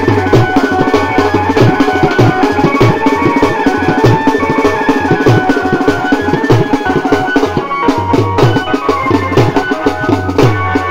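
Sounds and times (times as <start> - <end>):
electronic keyboard melody: 0.0 - 10.9
marching side drums: 0.0 - 10.9.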